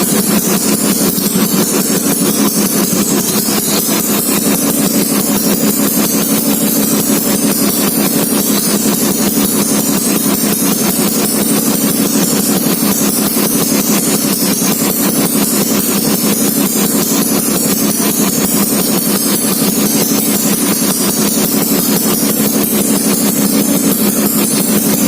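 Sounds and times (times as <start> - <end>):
scooter engine idling: 0.0 - 25.0.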